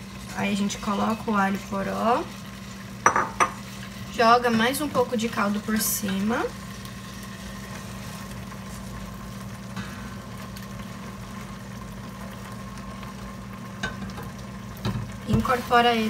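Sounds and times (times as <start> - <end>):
kitchen appliance hum: 0.0 - 16.0.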